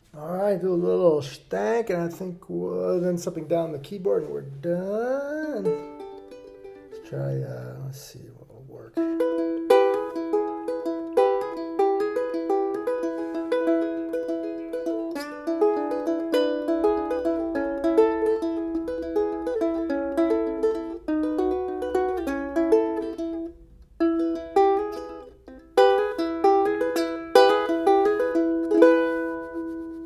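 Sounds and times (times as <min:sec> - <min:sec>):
ukulele plucked melody: 0:02.1 - 0:07.8, 0:08.9 - 0:30.0.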